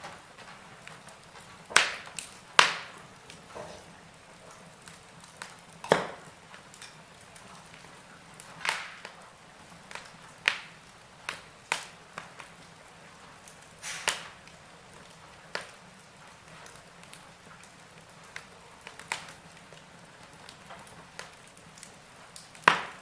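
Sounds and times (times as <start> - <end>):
faint steady hiss: 0.0 - 23.0
wood fire crackling: 0.0 - 23.0.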